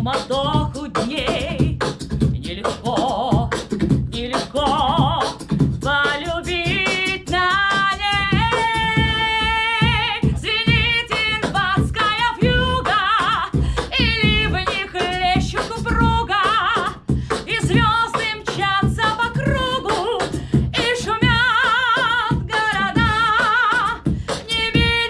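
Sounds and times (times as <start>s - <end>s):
woman singing wordless vocalise: 0.0s - 1.8s, 2.4s - 25.0s
pop backing track with beat: 0.0s - 25.0s.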